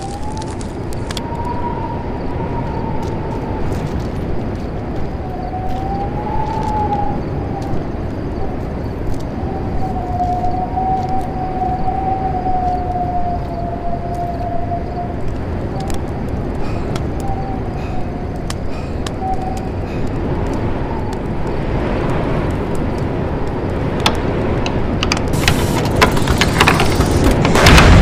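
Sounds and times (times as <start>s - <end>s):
wind rumbling: 0.0s - 28.0s.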